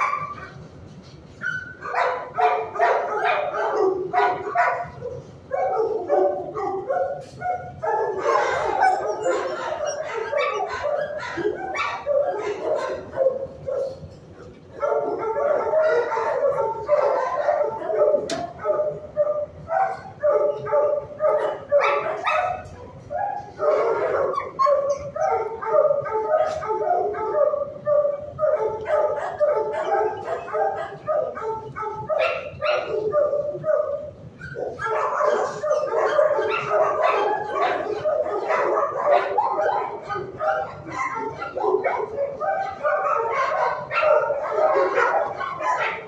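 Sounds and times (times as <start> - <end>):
dogs barking: 0.0 - 46.0.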